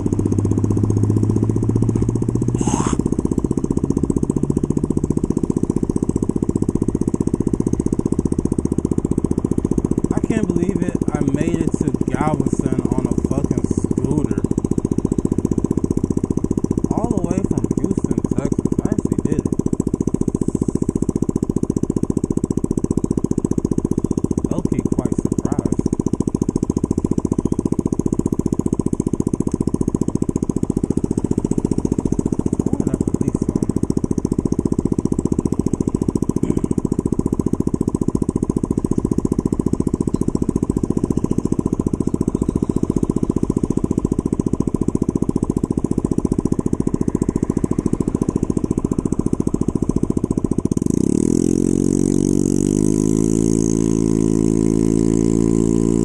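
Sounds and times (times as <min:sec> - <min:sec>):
scooter engine idling: 0:00.0 - 0:56.0
scooter engine revving: 0:00.0 - 0:56.0.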